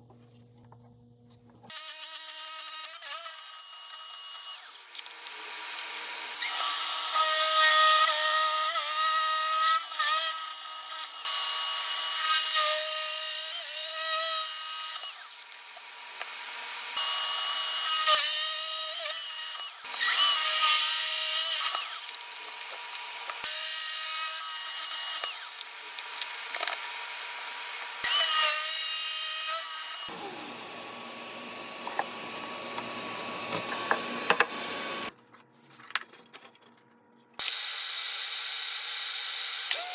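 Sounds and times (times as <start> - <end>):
power drill boring into wood: 1.7 - 13.9, 14.5 - 35.1, 37.4 - 39.9.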